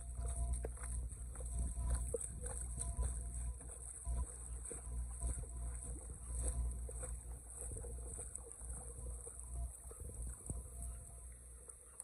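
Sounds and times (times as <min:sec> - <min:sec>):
low rumble: 0:00.0 - 0:11.8
wading through splashing water: 0:00.0 - 0:12.0.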